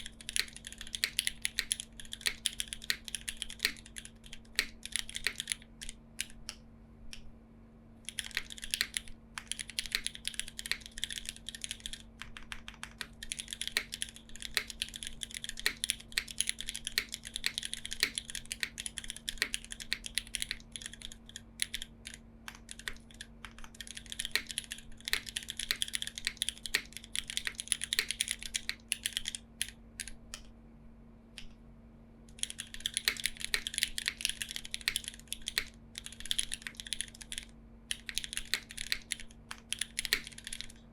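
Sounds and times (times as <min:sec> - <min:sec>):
mechanical keyboard typing: 0:00.0 - 0:06.6, 0:08.0 - 0:30.4, 0:32.3 - 0:40.9
faint steady hum: 0:00.0 - 0:40.9.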